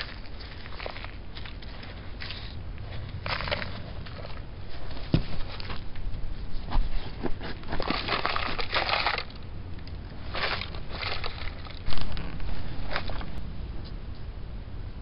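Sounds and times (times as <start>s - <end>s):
soil scraping and rustling in tray: 0.0s - 9.4s, 10.2s - 13.4s.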